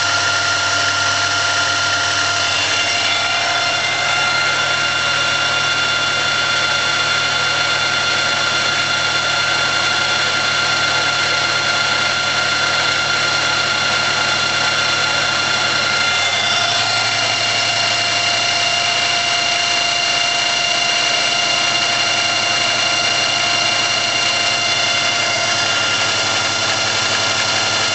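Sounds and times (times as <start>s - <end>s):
milling machine hum with whining tones: 0.0s - 27.9s.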